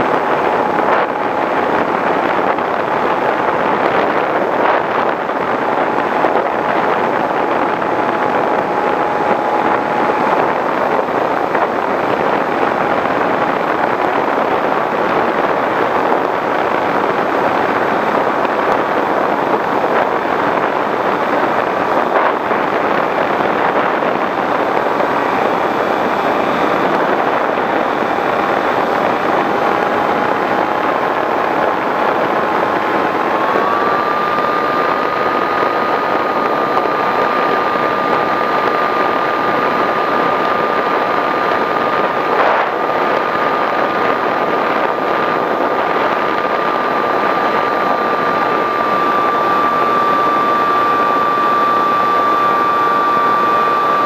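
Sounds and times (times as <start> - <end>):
electric motor and propeller whining: 0.0 - 54.0
wind rush on microphone: 0.0 - 54.0.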